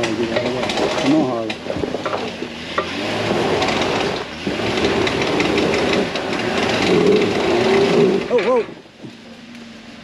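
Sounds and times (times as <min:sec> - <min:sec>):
vehicle engine running at low revs: 0:00.0 - 0:10.0.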